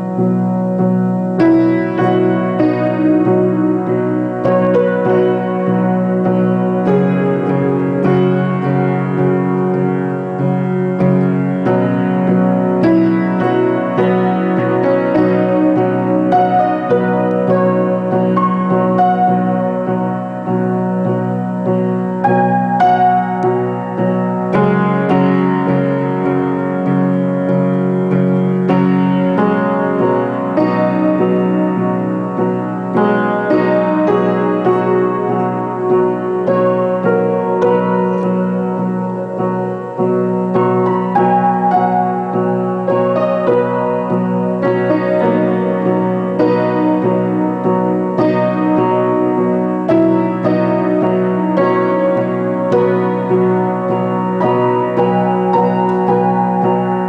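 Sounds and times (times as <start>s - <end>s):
upright piano playing: 0.0s - 57.0s.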